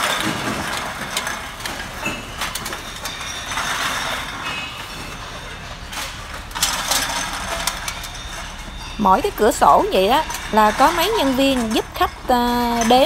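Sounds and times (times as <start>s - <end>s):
aluminium cans clattering on metal: 0.0s - 13.0s.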